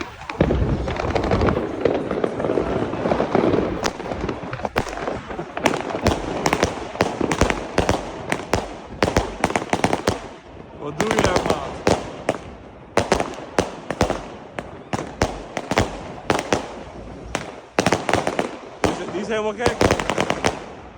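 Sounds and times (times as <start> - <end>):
firework bangs: 0.0 - 20.9
fireworks crackling: 0.0 - 20.9.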